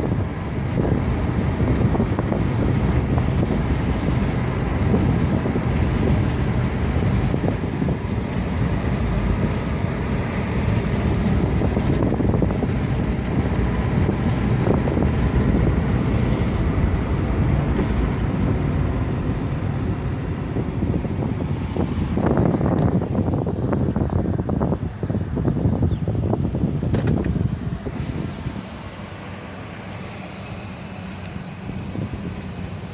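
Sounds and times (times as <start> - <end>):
road and engine noise: 0.0 - 32.9
wind buffeting microphone: 0.0 - 32.9.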